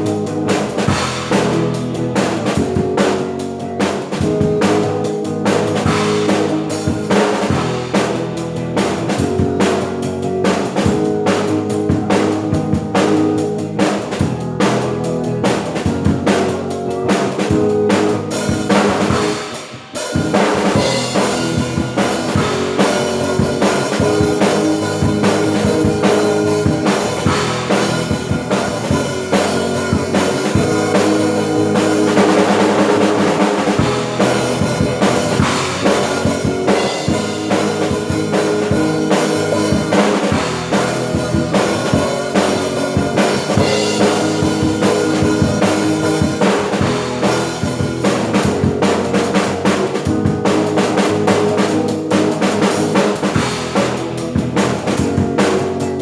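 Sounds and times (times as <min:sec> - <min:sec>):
drum kit playing: 0:00.0 - 0:56.0
worship band music: 0:00.0 - 0:56.0.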